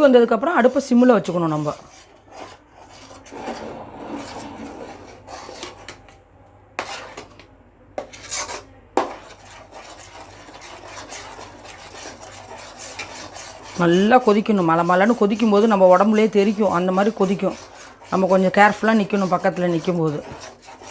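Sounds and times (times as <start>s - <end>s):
ladle scraping and stirring in pan: 0.0s - 6.2s, 6.8s - 20.9s.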